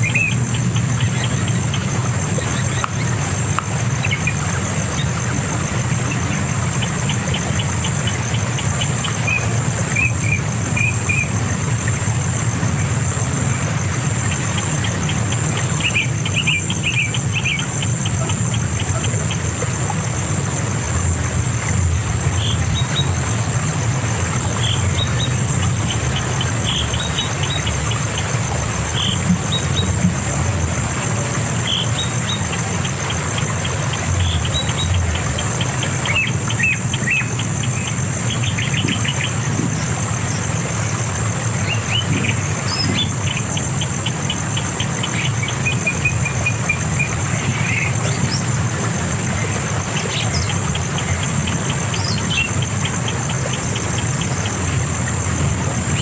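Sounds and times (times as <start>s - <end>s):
birds chirping: 0.0s - 56.0s
insect drone: 0.0s - 56.0s
low continuous rumble: 0.0s - 56.0s.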